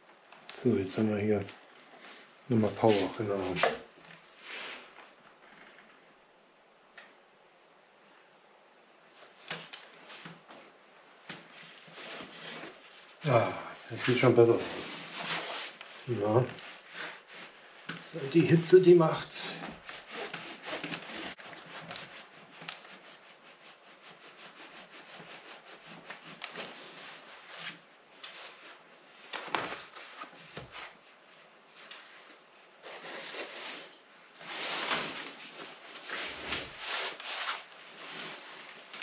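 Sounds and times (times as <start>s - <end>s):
cloth rustling and rubbing: 0.0s - 6.1s, 8.9s - 39.0s.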